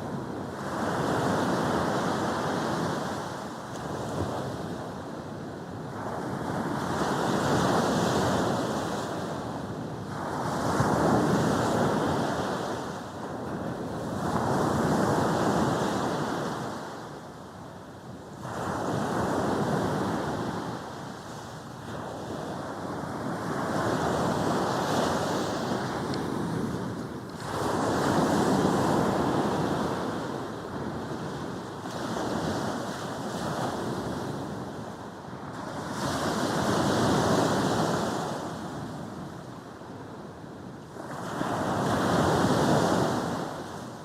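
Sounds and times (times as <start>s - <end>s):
sea waves breaking on a beach: 0.0s - 44.0s.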